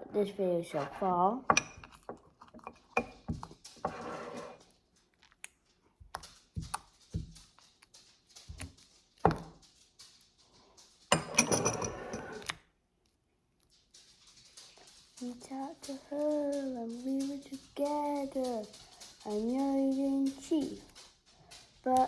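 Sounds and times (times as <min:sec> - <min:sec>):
scraping and rattling: 0:00.0 - 0:12.6, 0:13.6 - 0:22.0
utensils and containers clinking: 0:00.0 - 0:12.6, 0:13.8 - 0:22.0.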